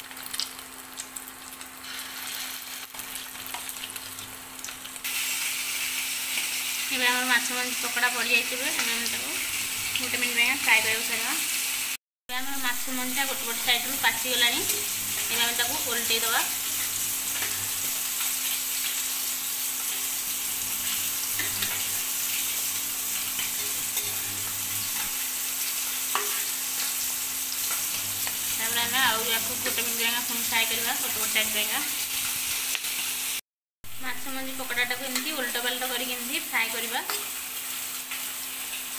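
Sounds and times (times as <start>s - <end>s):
deep-frying sizzle in oil: 0.0s - 38.9s.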